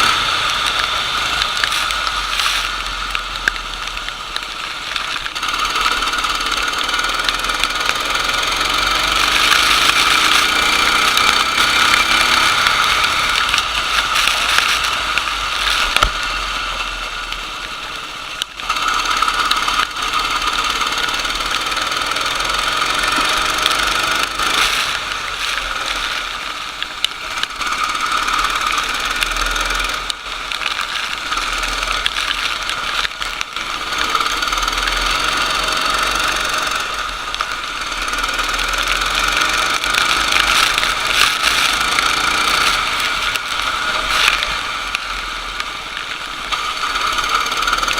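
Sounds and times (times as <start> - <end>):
racing kart engine: 0.0 - 47.9.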